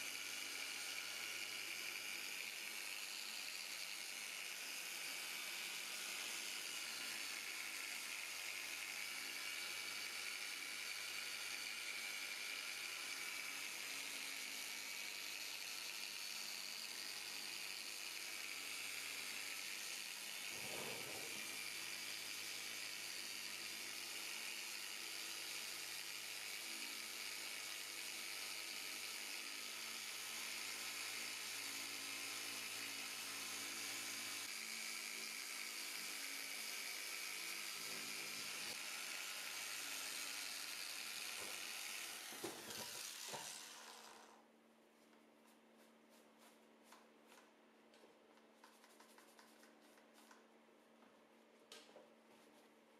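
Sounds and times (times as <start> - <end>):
electric polisher whirring: 0.0 - 44.4.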